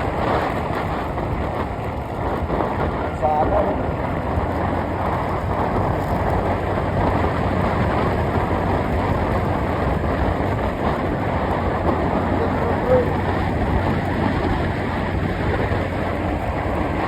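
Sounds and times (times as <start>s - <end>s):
low engine hum: 0.0s - 17.0s
road and wind noise: 0.0s - 17.0s.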